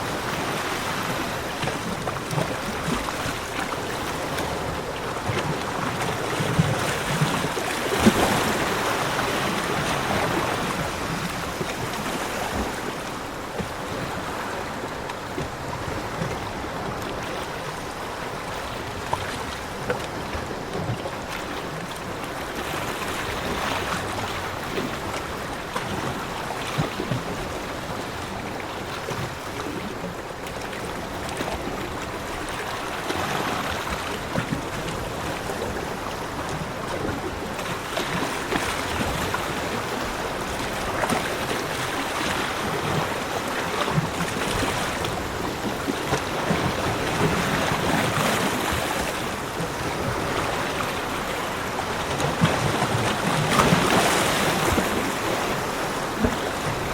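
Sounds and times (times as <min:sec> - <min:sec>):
sea waves washing on beach: 0:00.0 - 0:56.9.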